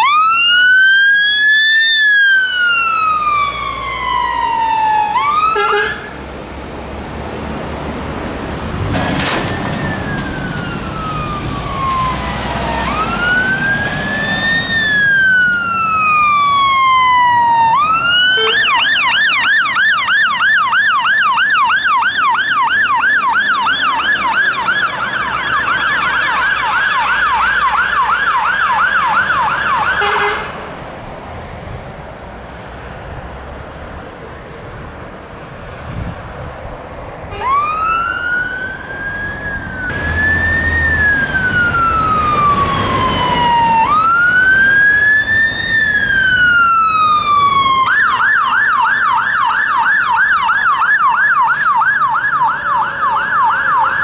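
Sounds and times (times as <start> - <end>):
fast siren yelp: 0.0 - 6.2, 9.4 - 30.4, 37.3 - 54.0
fire engine siren wailing: 0.0 - 30.7, 37.3 - 54.0.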